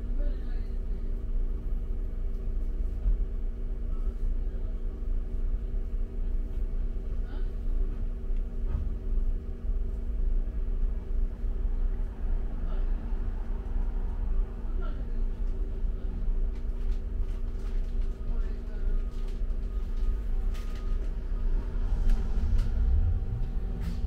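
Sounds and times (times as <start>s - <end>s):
bus engine and road rumble: 0.0s - 24.0s
drivetrain hum: 0.0s - 24.0s.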